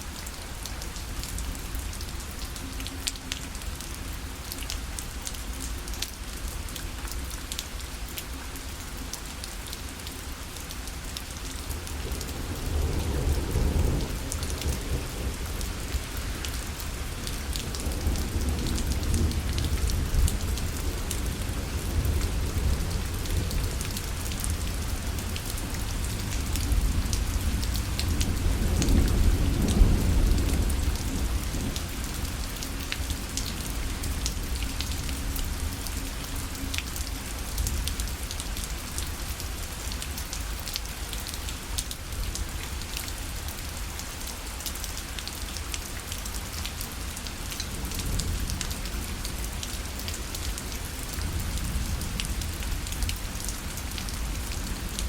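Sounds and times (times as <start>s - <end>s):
rain pattering on fabric: 0.0s - 55.0s.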